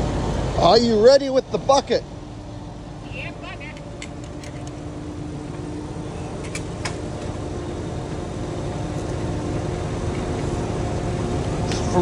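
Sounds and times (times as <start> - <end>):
concrete pump rumbling: 0.0 - 12.0.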